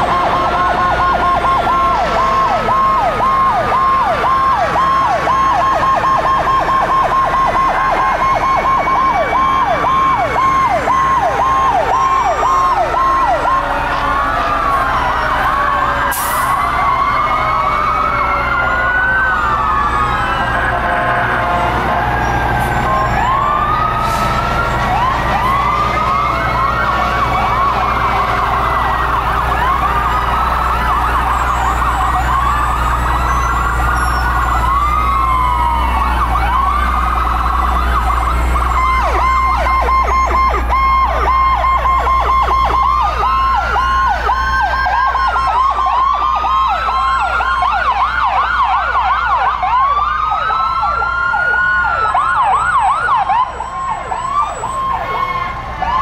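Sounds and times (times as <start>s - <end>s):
fire truck sirens wailing: 0.0s - 56.0s
truck engines rumbling: 0.0s - 56.0s.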